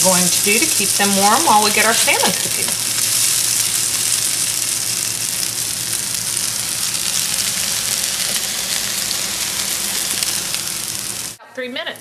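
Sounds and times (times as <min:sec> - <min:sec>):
fritters sizzling on a griddle: 0:00.0 - 0:11.4.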